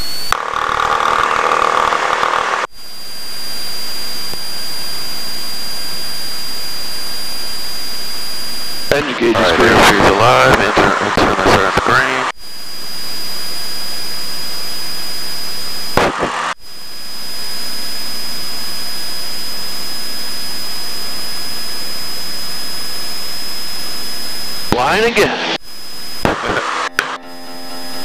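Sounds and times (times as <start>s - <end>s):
faint high whine: 0.0s - 0.4s, 2.6s - 28.0s
airplane engine and propeller drone: 0.0s - 28.0s.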